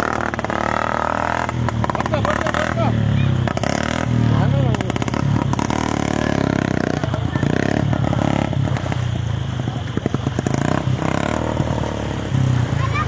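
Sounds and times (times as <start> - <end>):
crowd voices: 0.0 - 13.0
motorcycle engine running: 0.0 - 13.0.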